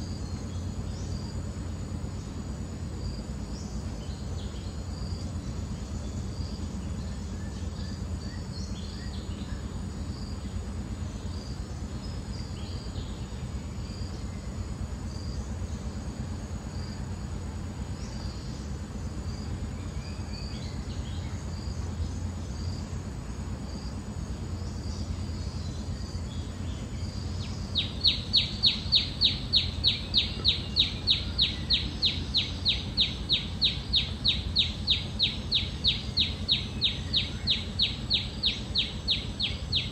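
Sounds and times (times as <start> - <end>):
faint chirps: 0.0 - 39.9
loud regular chirping: 0.0 - 39.9
steady low rumble: 0.0 - 39.9.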